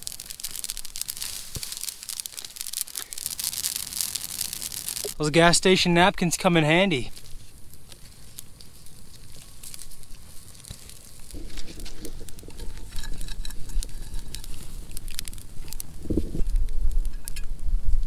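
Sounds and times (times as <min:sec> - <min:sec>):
brush fire crackling and popping: 0:00.0 - 0:18.0.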